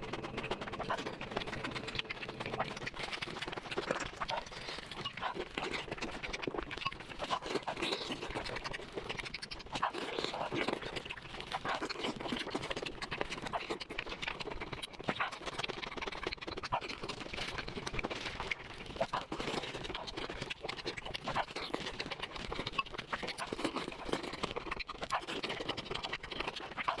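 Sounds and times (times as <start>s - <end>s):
chewing with wet mouth clicks: 0.0s - 27.0s.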